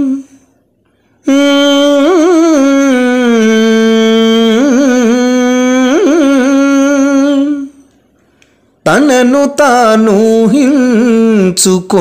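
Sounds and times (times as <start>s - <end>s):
man singing held vowel: 0.0s - 0.4s, 1.2s - 7.9s, 8.8s - 12.0s.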